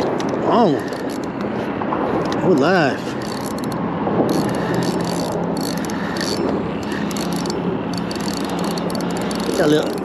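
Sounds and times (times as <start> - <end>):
fishing reel clicking: 0.0 - 1.4, 3.1 - 10.0
outdoor noise: 0.0 - 10.0.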